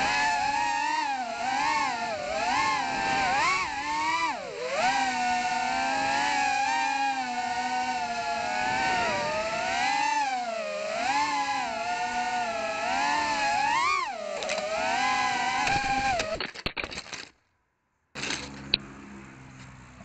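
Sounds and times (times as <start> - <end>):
quadcopter motors whining: 0.0 - 16.4.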